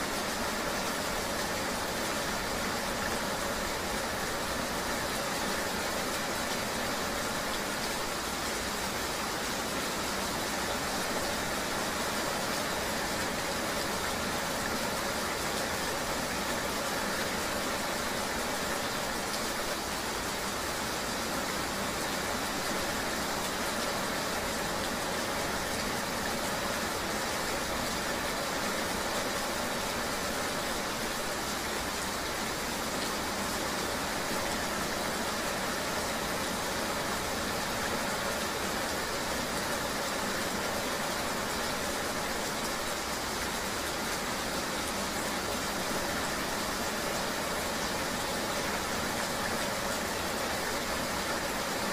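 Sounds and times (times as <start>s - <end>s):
rain: 0.0s - 51.9s.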